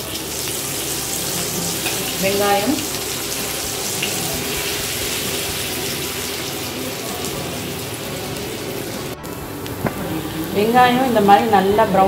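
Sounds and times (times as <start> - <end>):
onions sizzling in hot oil: 0.0 - 11.8.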